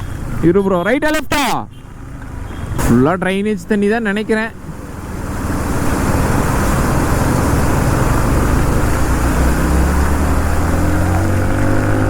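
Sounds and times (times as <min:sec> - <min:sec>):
motorcycle engine: 0:01.7 - 0:12.0.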